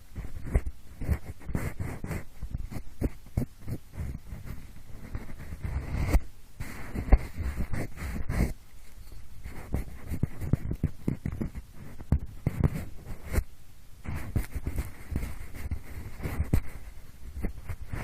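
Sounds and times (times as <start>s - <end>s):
pencil rubbing and scratching: 0.0s - 18.0s.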